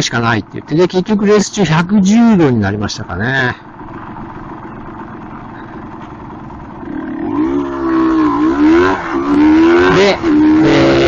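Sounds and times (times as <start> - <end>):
motorcycle engine revving: 1.3 - 11.0.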